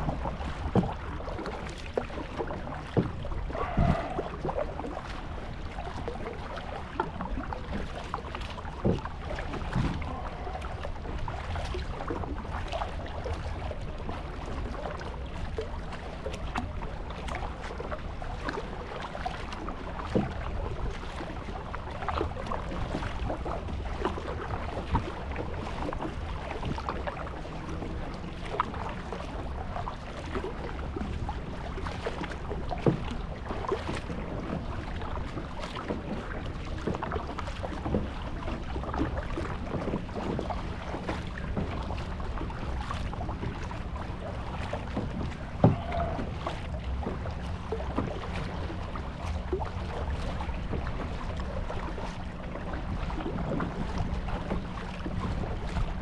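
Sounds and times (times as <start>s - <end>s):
paddle splashes: 0.0s - 56.0s
water slapping against hull: 0.0s - 56.0s
wind rumbling on microphone: 0.0s - 56.0s.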